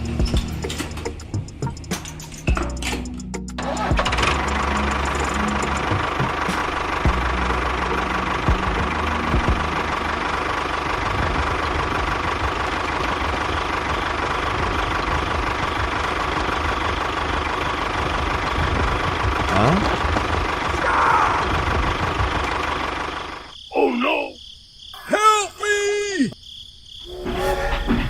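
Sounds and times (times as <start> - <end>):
small engine running: 0.0 - 23.5.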